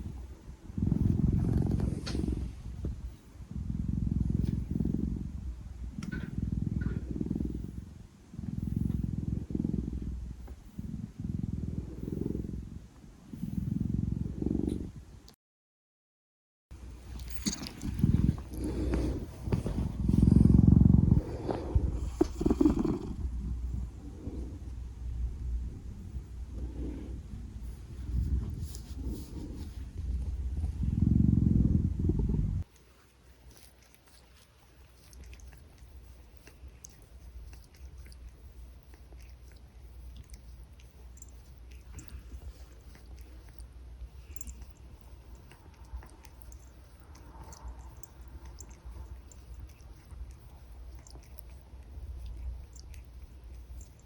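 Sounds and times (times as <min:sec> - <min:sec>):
cat purring: 0:00.0 - 0:15.4, 0:16.9 - 0:54.0.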